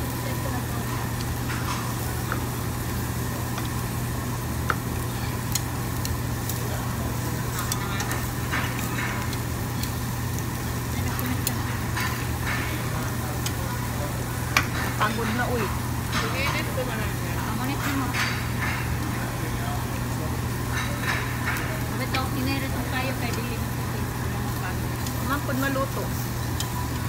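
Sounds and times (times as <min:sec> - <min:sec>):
meat sizzling on a grill: 0:00.0 - 0:27.0
steady low hum: 0:00.0 - 0:27.0.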